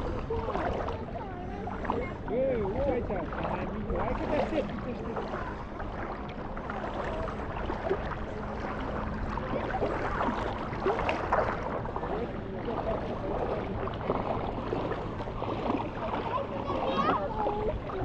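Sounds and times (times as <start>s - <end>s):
chatter of many people: 0.0s - 18.0s
water wash: 0.0s - 18.0s.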